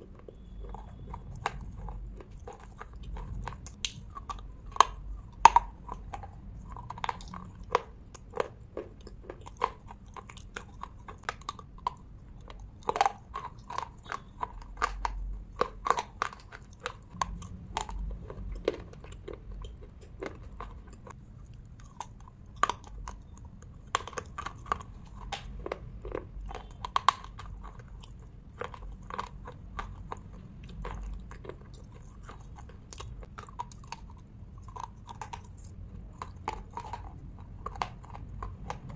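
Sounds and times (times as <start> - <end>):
crunching and snapping bites: 0.0 - 38.9
gritty chewing: 0.0 - 38.9.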